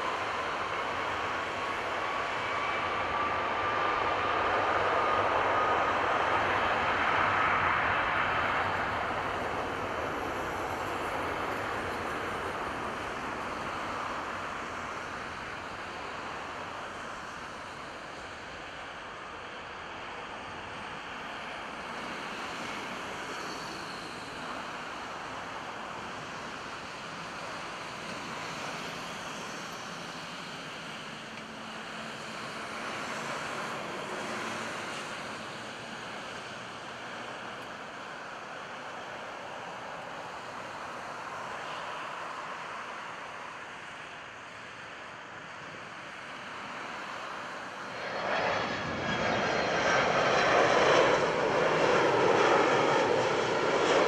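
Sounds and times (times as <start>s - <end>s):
jet engines rushing with whine: 0.0s - 54.0s.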